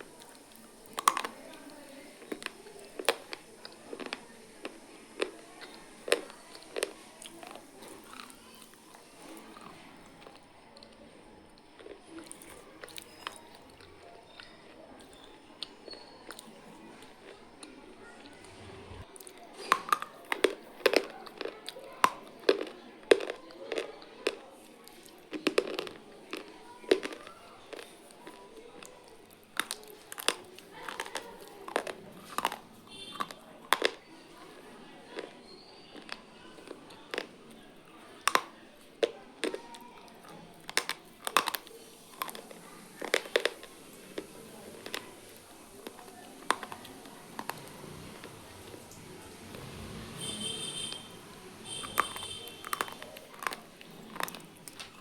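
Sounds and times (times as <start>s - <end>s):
crunchy noodles crunching: 0.0s - 11.0s, 11.6s - 18.3s, 19.1s - 55.0s.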